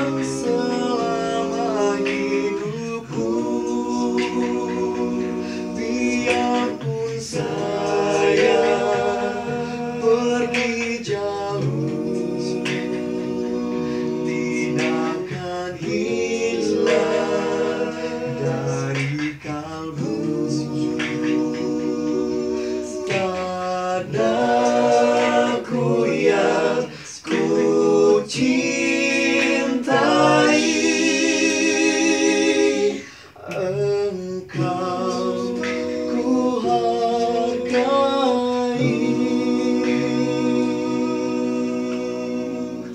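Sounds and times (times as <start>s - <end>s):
men singing a cappella: 0.0s - 42.9s.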